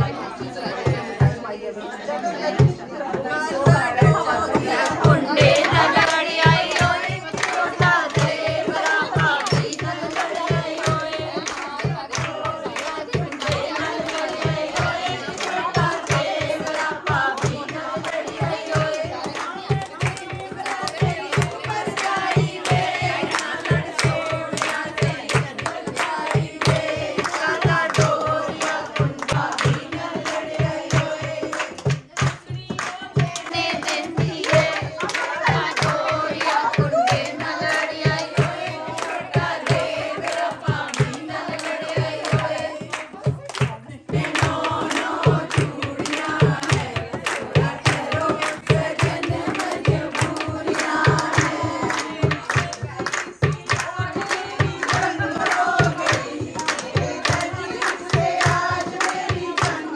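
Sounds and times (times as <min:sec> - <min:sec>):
hand drum beat: 0:00.0 - 0:01.6, 0:02.5 - 0:59.9
group singing folk song: 0:00.0 - 0:59.9.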